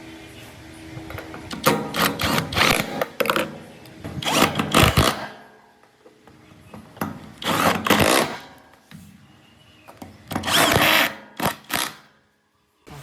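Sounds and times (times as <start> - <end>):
workshop tool noise: 0.4 - 12.2.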